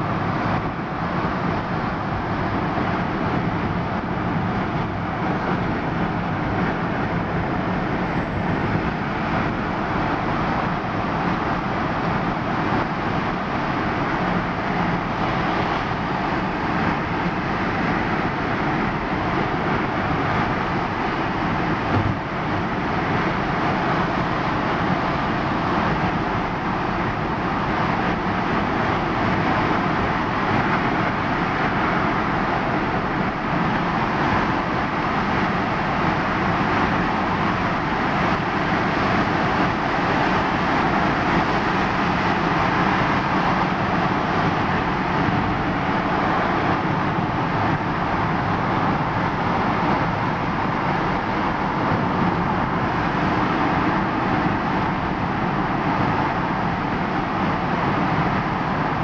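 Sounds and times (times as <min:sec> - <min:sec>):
engine hum: 0:00.0 - 0:59.0
road and tyre noise: 0:00.0 - 0:59.0.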